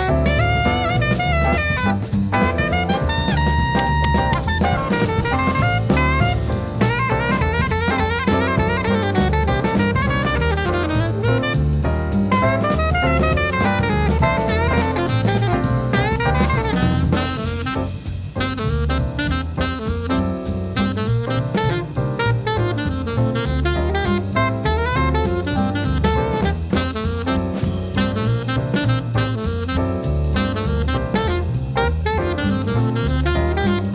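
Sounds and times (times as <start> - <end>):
drum kit: 0.0 - 33.9
saxophone playing quick runs: 0.0 - 33.9
walking bass line: 0.0 - 33.9.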